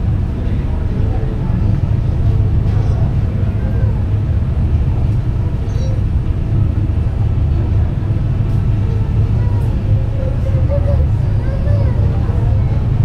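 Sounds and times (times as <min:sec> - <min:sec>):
ferry engine rumble: 0:00.0 - 0:13.0.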